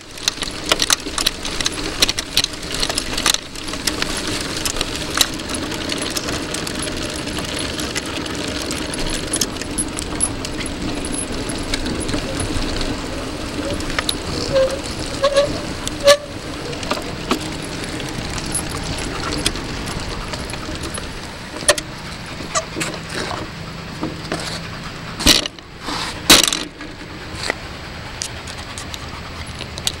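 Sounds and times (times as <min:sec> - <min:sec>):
bike clicks and rattles: 0:00.0 - 0:30.0
bike tyres rumbling on paving: 0:00.0 - 0:30.0.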